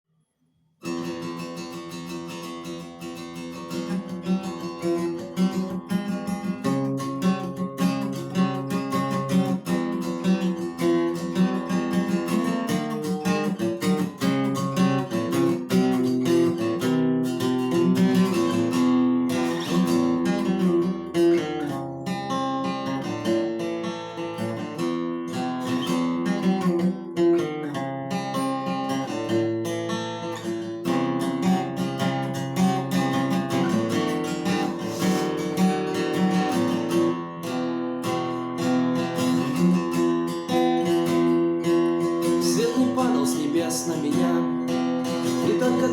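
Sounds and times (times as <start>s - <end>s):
acoustic guitar playing: 0.4s - 45.9s.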